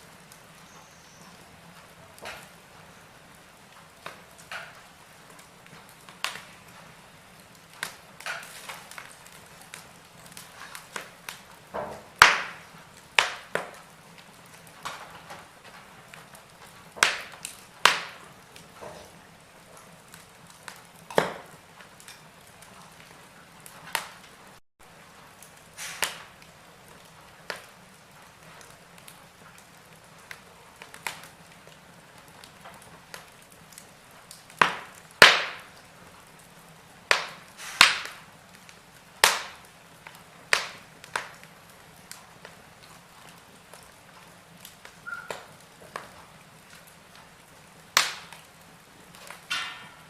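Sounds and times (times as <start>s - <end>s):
faint steady hiss: 0.0s - 50.0s
wood fire crackling: 0.0s - 50.0s.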